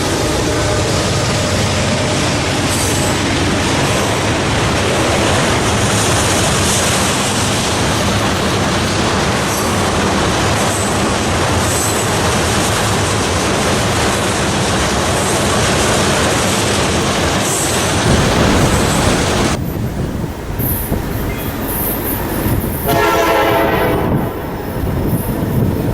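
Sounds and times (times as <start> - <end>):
freight train wheels rumbling: 0.0 - 25.9.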